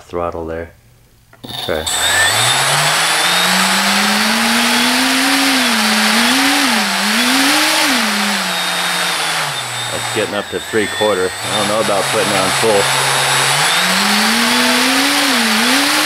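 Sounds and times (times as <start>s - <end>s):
electric motor whine: 1.4s - 16.0s
propeller air rushing: 1.4s - 16.0s.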